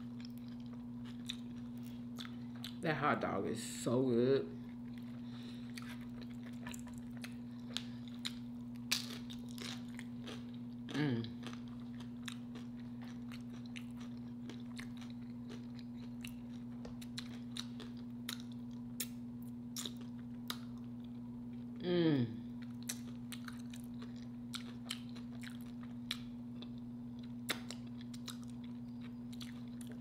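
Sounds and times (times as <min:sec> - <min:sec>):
chewing and crunching chips: 0:00.0 - 0:02.9, 0:04.5 - 0:21.8, 0:22.5 - 0:30.0
low electrical hum: 0:00.0 - 0:30.0.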